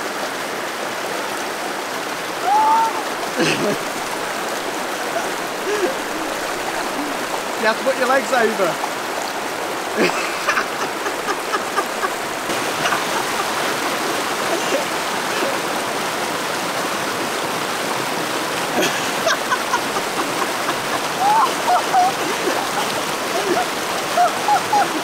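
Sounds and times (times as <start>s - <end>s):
stream rushing over rocks: 0.0s - 25.0s
water splashing around a person: 0.0s - 25.0s.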